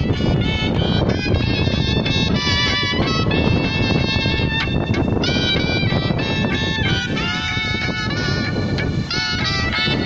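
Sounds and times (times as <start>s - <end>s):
background music with sustained notes: 0.0s - 10.0s.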